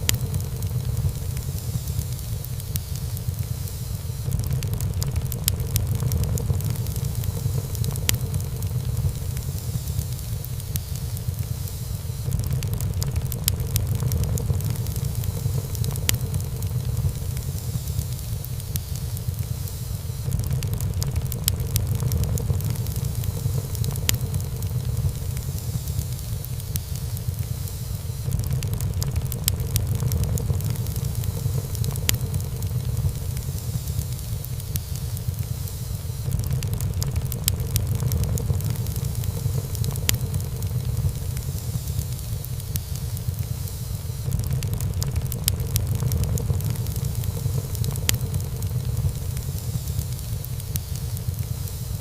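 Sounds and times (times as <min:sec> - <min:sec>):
low rumble of fire: 0:00.0 - 0:52.0
wood fire crackling and popping: 0:00.0 - 0:52.0.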